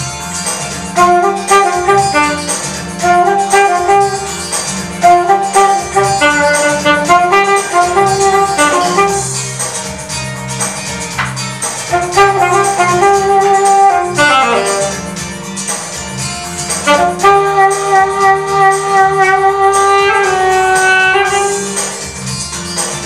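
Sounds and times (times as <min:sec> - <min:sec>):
alto saxophone melody: 0:00.0 - 0:10.1, 0:11.3 - 0:15.6, 0:16.4 - 0:22.4
backing track with drums: 0:00.0 - 0:23.0.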